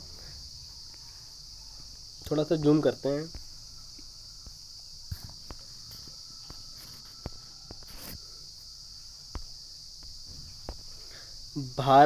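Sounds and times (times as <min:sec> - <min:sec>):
high-pitched background hiss: 0:00.0 - 0:12.0.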